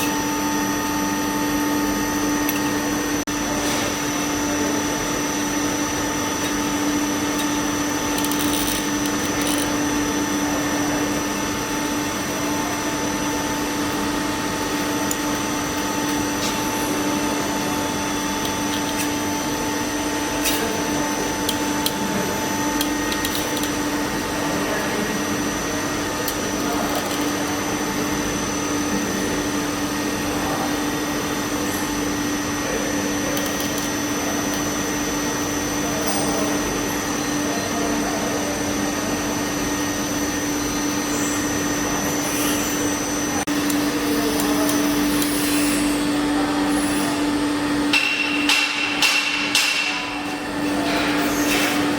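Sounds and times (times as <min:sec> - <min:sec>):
machine motor hum with whine: 0:00.0 - 0:51.9.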